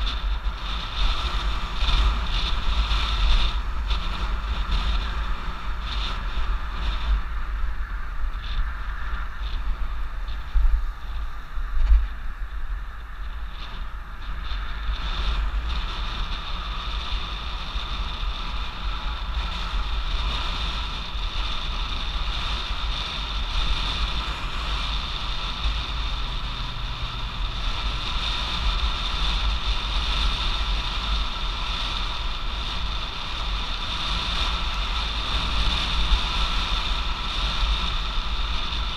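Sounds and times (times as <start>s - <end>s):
tyre and road noise: 0.0s - 38.9s
wind buffeting microphone: 0.0s - 38.9s.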